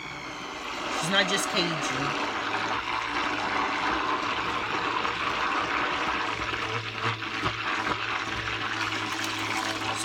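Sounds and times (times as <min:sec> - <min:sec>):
stick blender whirring: 0:00.0 - 0:10.0.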